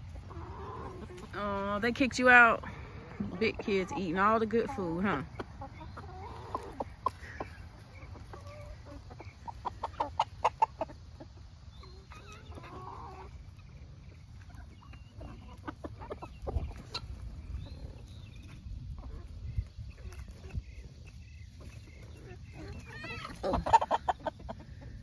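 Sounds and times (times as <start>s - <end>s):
chickens clucking: 0.0s - 25.0s
chickens pecking taps: 3.2s - 24.9s.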